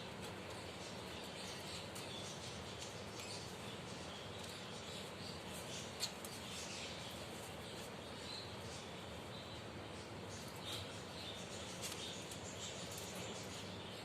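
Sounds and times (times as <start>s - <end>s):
finches chirping: 0.0s - 14.0s.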